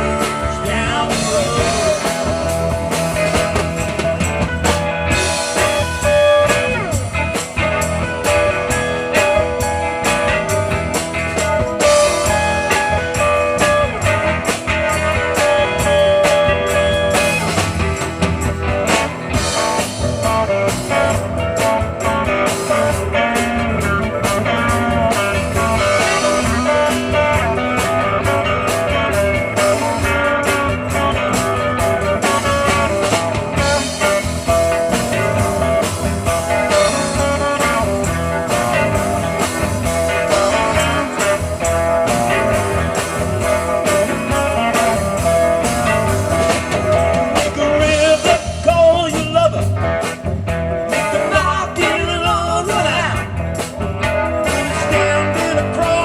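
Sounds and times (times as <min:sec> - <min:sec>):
electric guitar line: 0:00.0 - 0:56.0
rock band playing: 0:00.0 - 0:56.0.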